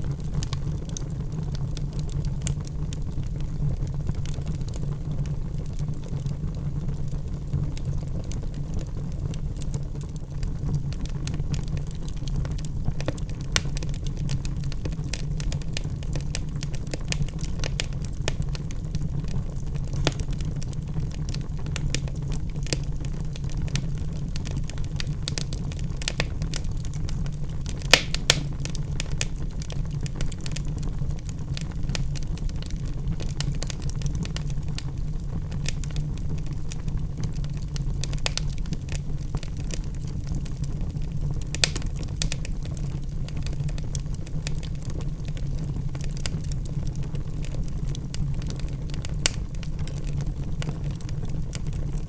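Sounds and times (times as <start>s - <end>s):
logs crackling in a fireplace: 0.0s - 52.0s.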